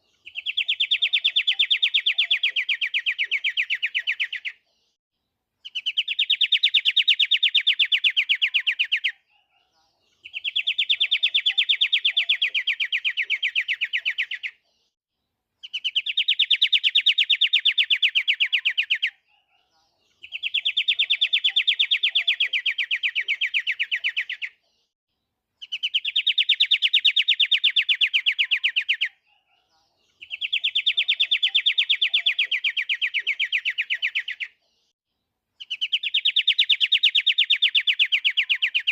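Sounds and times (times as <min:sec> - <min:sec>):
bird singing rapid trill: 0:00.1 - 0:04.6, 0:05.6 - 0:14.6, 0:15.6 - 0:24.6, 0:25.6 - 0:34.6, 0:35.6 - 0:38.9.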